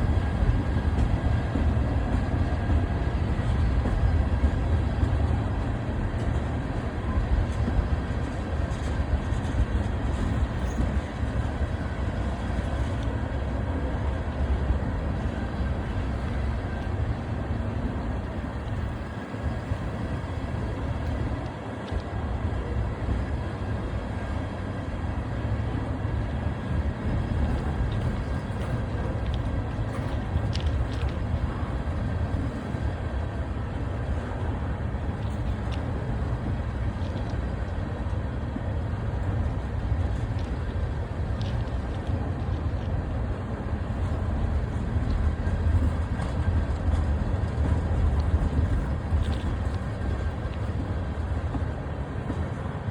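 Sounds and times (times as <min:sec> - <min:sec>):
freight train rumbling on track: 0:00.0 - 0:52.9.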